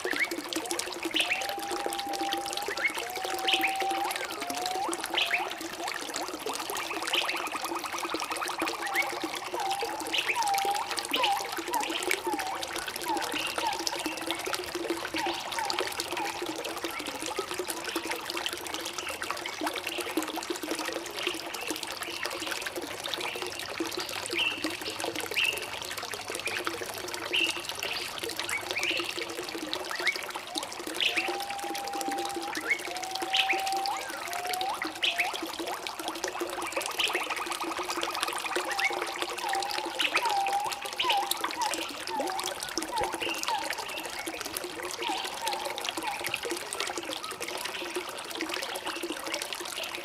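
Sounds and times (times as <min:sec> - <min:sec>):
bubbling blips: 0:00.0 - 0:50.0
stream trickling and gurgling: 0:00.0 - 0:50.0.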